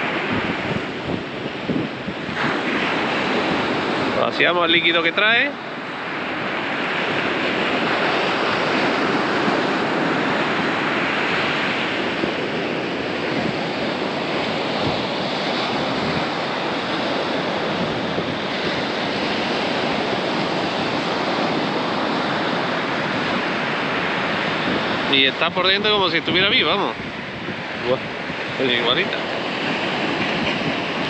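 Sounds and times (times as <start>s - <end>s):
waves breaking on beach: 0.0s - 31.0s
wind on microphone: 0.0s - 31.0s.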